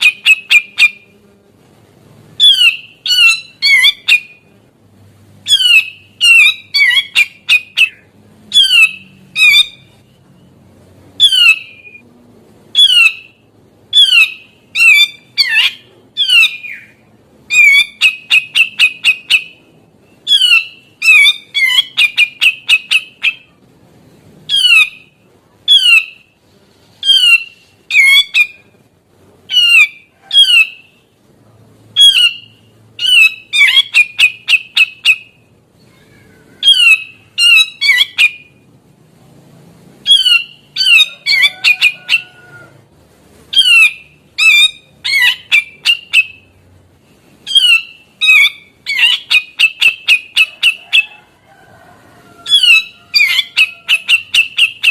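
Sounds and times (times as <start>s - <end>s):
bird calling in harsh phrases: 0.0s - 1.1s, 2.4s - 4.5s, 5.4s - 10.5s, 11.2s - 12.0s, 12.7s - 23.6s, 24.5s - 26.4s, 27.0s - 28.8s, 29.5s - 31.2s, 32.0s - 38.7s, 40.0s - 42.8s, 43.5s - 46.6s, 47.4s - 51.4s, 52.2s - 54.9s.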